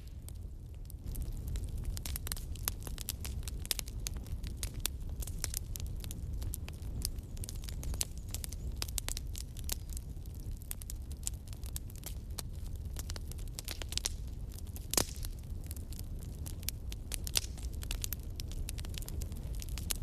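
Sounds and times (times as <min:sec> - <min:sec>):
fire crackling and popping: 0:00.0 - 0:20.0
low fire rumble: 0:00.0 - 0:20.0.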